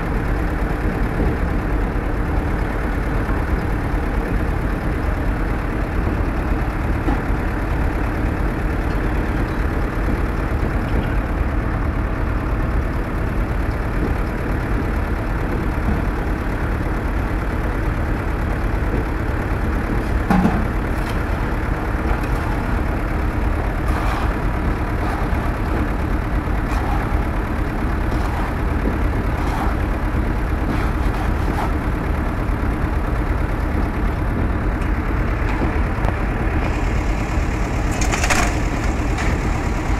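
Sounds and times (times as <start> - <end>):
engine idling rumble: 0.0 - 39.9.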